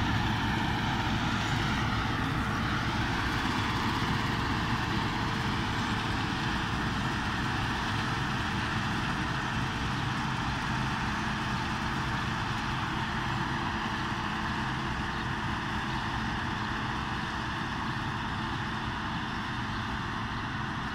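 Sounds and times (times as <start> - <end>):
combine harvester engine drone: 0.0 - 20.9.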